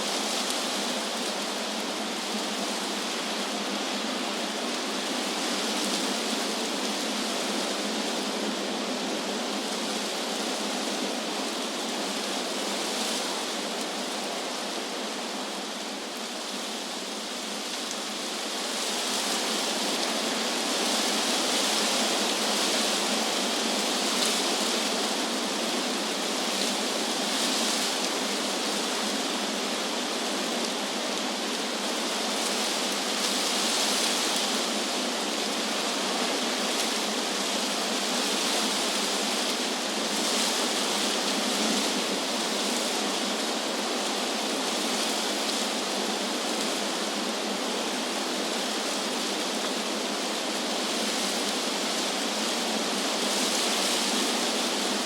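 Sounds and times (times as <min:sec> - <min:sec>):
wind rustling leaves in trees: 0:00.0 - 0:55.0.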